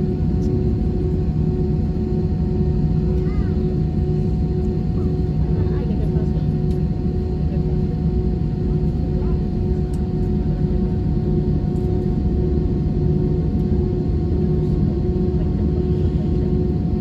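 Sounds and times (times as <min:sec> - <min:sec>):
aircraft cabin low rumble: 0:00.0 - 0:17.0
constant hum: 0:00.0 - 0:17.0.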